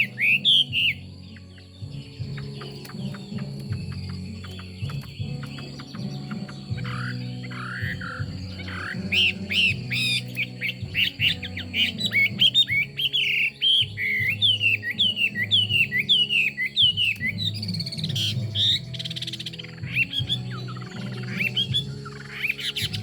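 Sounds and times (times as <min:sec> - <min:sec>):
bird singing whistled phrases: 0:00.0 - 0:23.0.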